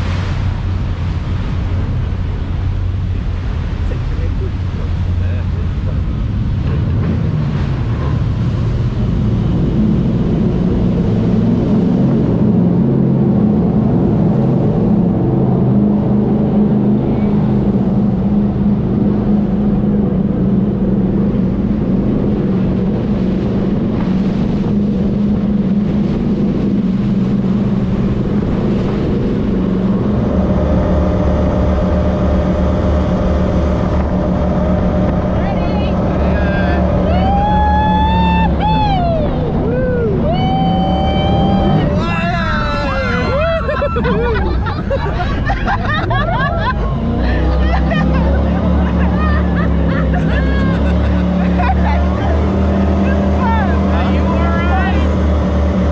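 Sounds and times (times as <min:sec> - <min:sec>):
boat engines running: 0:00.0 - 0:55.9.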